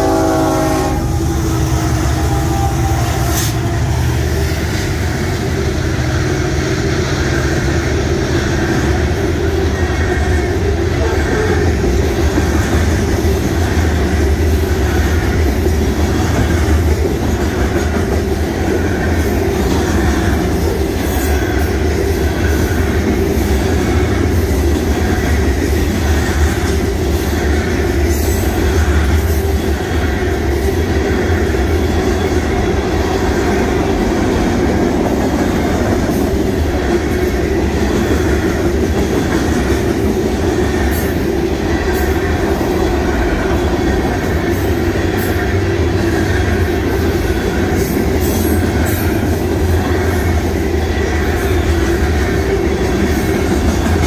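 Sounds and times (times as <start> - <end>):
freight train wheels rumbling: 0.0 - 54.0
rail clickety-clack: 0.0 - 54.0.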